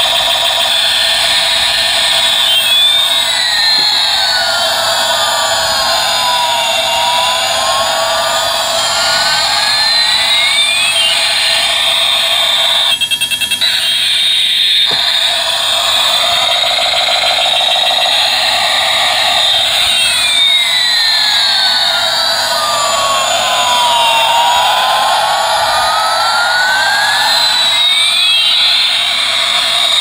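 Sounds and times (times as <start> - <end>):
toy jet engine whooshing tone: 0.0 - 30.0.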